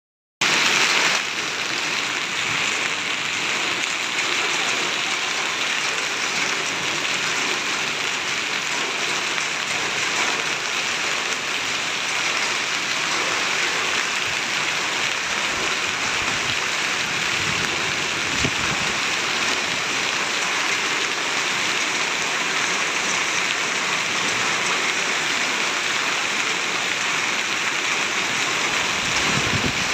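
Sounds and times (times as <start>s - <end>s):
hail and sleet falling: 0.4s - 29.9s.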